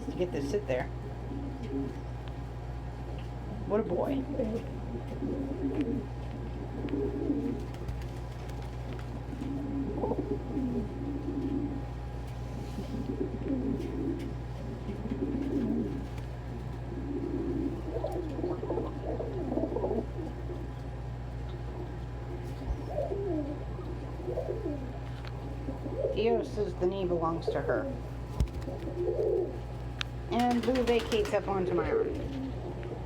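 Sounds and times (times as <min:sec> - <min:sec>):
pigeons cooing: 0:00.0 - 0:26.5, 0:27.4 - 0:33.0
steady low hum: 0:00.0 - 0:33.0.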